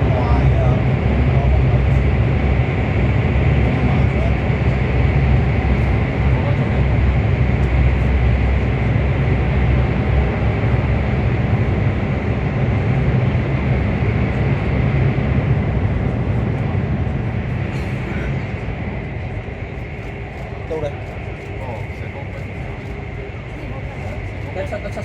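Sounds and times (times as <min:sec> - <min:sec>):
train rumble inside cabin: 0:00.0 - 0:25.0.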